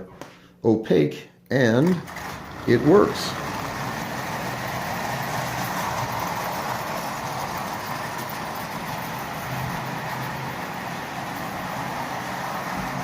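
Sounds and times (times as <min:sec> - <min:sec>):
toy train whirring on track: 0:02.1 - 0:13.0.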